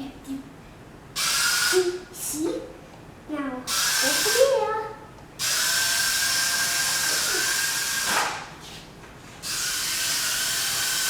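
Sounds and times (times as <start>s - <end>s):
suction fan whirring hiss: 1.1s - 3.0s, 3.6s - 11.0s.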